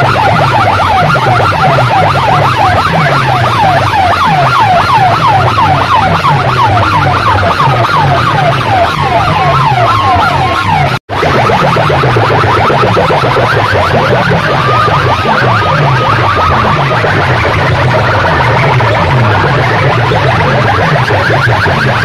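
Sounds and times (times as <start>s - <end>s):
pulsing bass beat: 0.0s - 22.0s
siren-like wail over loudspeakers: 0.0s - 22.0s.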